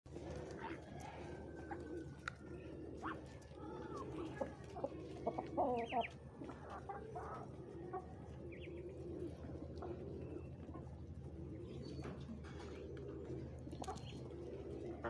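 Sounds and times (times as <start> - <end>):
low cooing calls: 0.1 - 15.0
hens clucking: 0.2 - 15.0.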